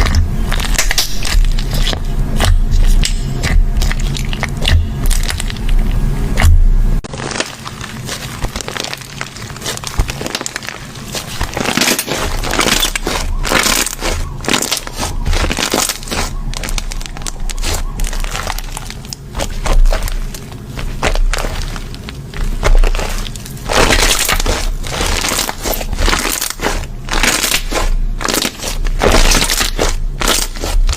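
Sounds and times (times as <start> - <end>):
slime crackling and crunching: 0.0 - 30.9.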